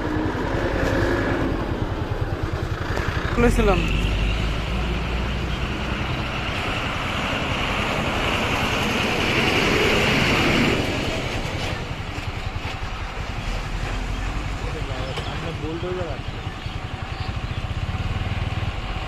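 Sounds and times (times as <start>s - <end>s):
low engine rumble: 0.0s - 19.0s
rush of vehicle noise: 0.0s - 19.0s.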